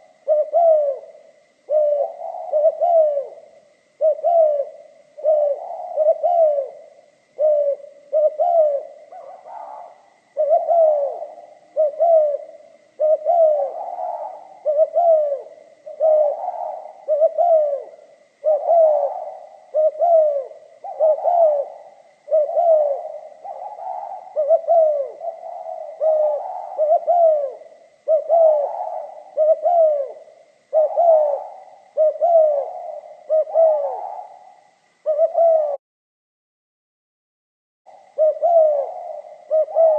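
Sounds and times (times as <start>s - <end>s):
dove cooing: 0.0s - 35.8s, 37.9s - 39.9s.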